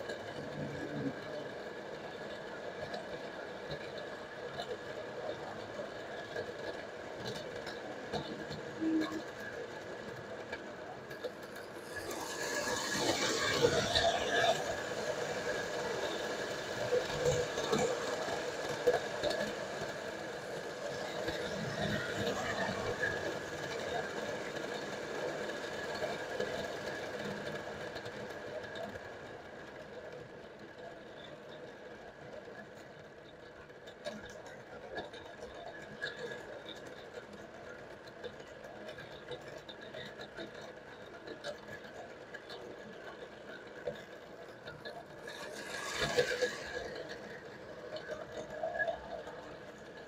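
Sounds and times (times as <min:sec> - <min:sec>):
toy train whirring and rattling: 0:00.0 - 0:50.0.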